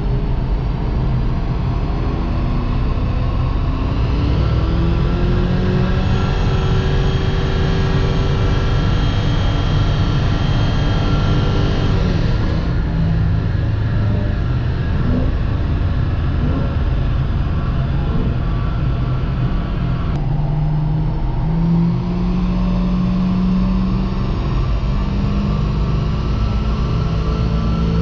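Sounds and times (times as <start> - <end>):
dyno rollers rumbling: 0.0 - 28.0
car engine under load: 0.1 - 28.0.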